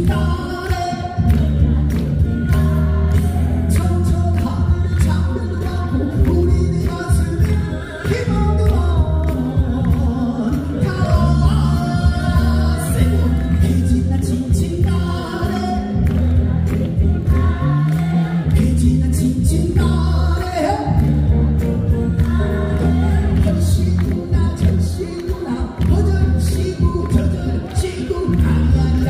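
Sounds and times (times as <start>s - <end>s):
backing track with heavy bass beat: 0.0s - 29.0s
person singing: 0.0s - 29.0s.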